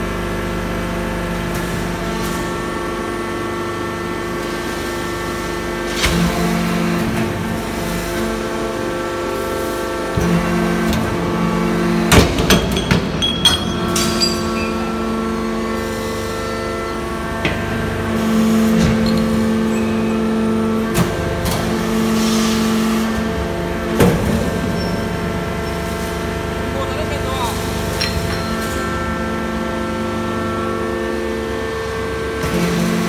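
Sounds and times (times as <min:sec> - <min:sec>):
hydraulic power unit humming: 0:00.0 - 0:33.0.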